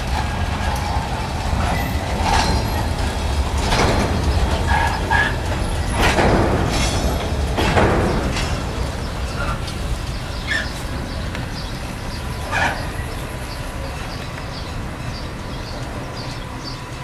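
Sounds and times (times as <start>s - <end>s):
wheels knocking over rail joints: 0.0s - 17.0s.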